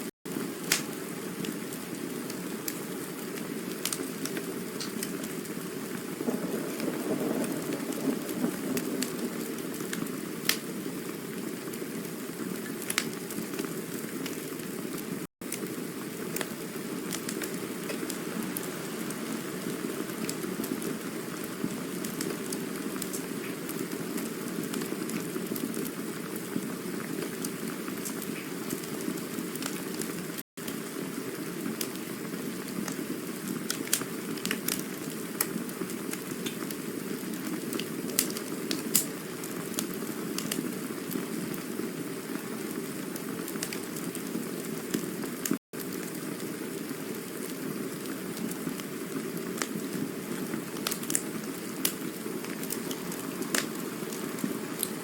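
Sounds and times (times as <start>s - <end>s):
campfire crackling: 0.3s - 55.0s.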